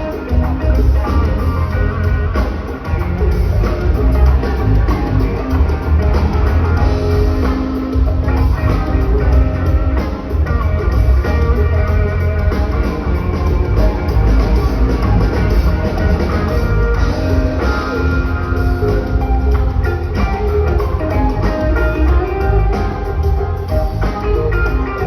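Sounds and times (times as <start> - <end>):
bass guitar: 0.0 - 25.0
drum kit beat: 0.0 - 25.0
electric guitar: 0.0 - 25.0.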